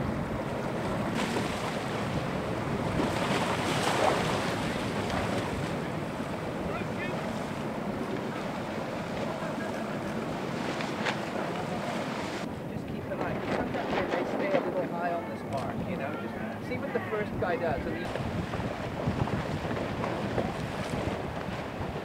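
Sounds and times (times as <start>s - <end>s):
waves washing and spray: 0.0s - 22.0s
wind buffeting microphone: 0.0s - 22.0s.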